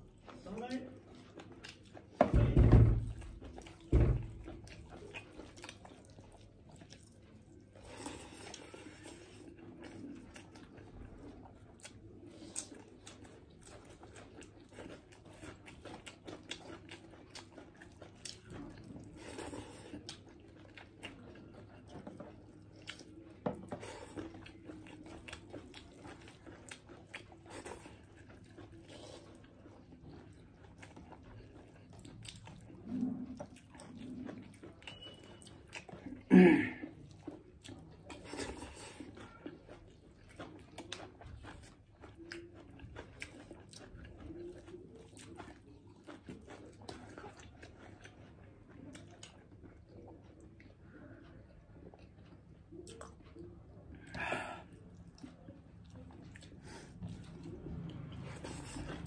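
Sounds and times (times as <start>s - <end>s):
chewing food: 0.0s - 59.0s.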